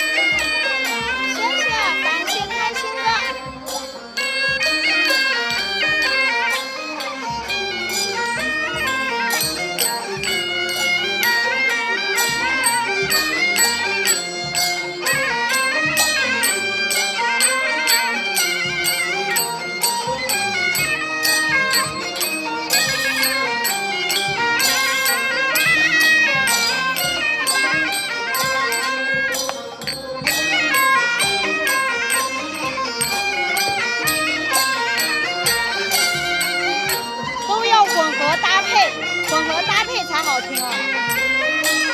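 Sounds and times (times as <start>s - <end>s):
folk music with steady beat: 0.0s - 41.9s.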